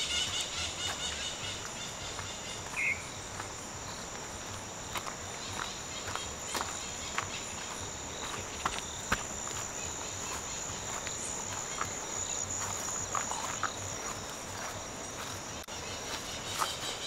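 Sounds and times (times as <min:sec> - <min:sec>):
footsteps on gravel and leaves: 0:00.0 - 0:17.0
insects droning: 0:00.0 - 0:17.0.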